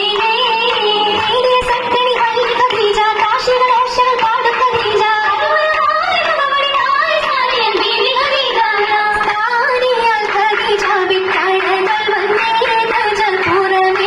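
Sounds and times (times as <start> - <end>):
women singing: 0.0 - 14.0.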